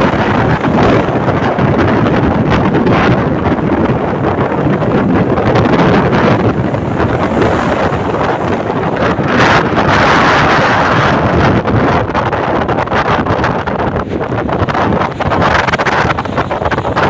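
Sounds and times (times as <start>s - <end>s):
surf rushing: 0.0s - 17.0s
wind buffeting the microphone: 0.0s - 17.0s.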